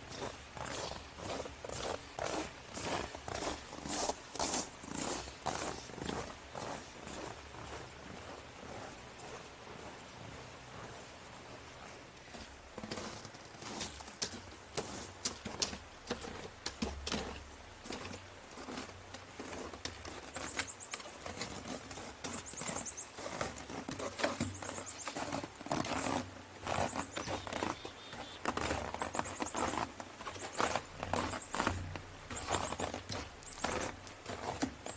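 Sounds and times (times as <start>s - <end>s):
footsteps crunching on snow: 0.0s - 34.9s.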